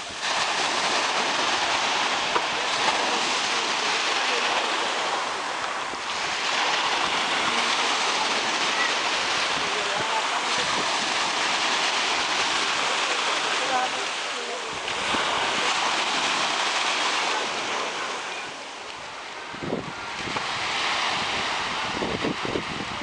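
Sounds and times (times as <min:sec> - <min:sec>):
sea surf washing onto shore: 0:00.0 - 0:23.0
wave breaking: 0:00.0 - 0:23.0.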